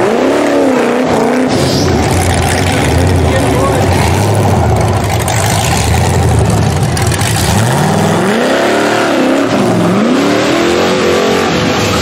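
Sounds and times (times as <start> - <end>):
buggy engine revving hard: 0.0 - 12.0.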